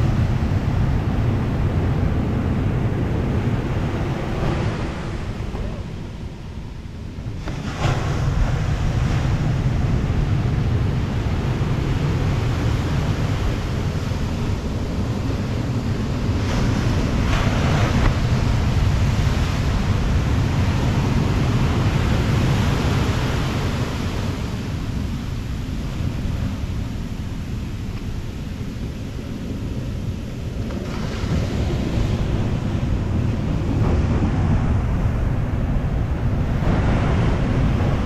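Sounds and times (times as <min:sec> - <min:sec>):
wind buffeting microphone: 0:00.0 - 0:38.0
surf breaking on sand: 0:07.2 - 0:38.0.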